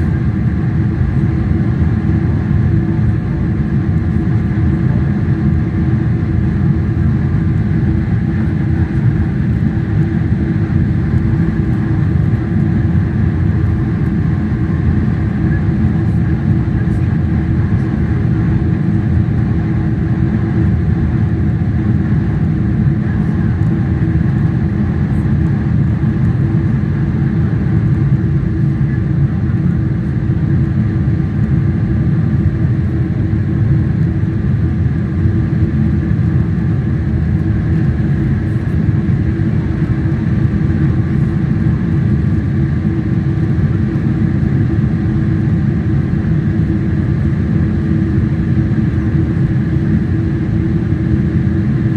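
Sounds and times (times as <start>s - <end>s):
faint engine whine: 0.0s - 51.9s
jet engines roaring: 0.0s - 51.9s.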